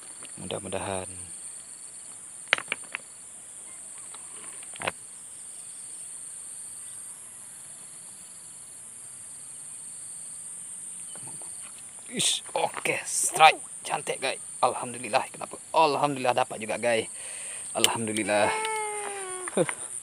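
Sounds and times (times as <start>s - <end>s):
insects chirring: 0.0s - 20.0s
lower insect trill: 0.0s - 20.0s.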